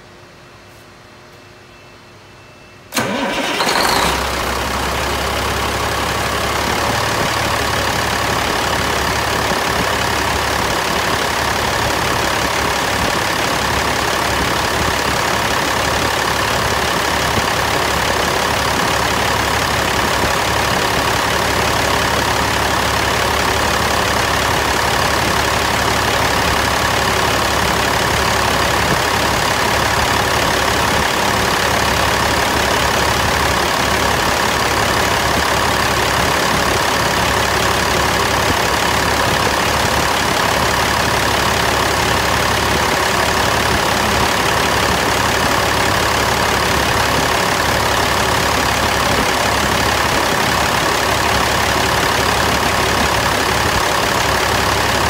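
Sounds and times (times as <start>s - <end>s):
diesel engine idling: 2.9s - 55.0s.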